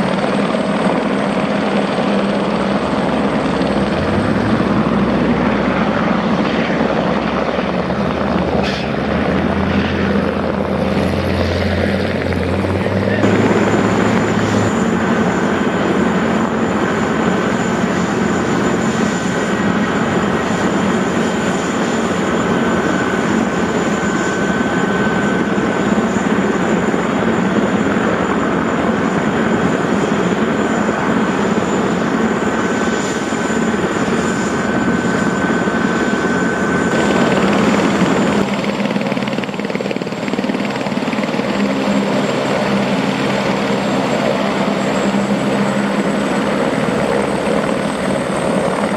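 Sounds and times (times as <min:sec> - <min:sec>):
high turbine whine: 0:00.0 - 0:48.9
single-rotor helicopter: 0:00.0 - 0:48.9
tandem-rotor helicopter running: 0:00.0 - 0:48.9.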